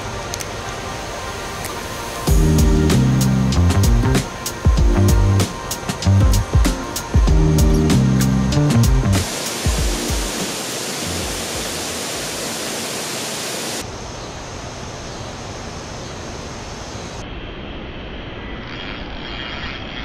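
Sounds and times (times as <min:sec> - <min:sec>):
running water hiss: 0:00.0 - 0:17.2, 0:18.3 - 0:20.0.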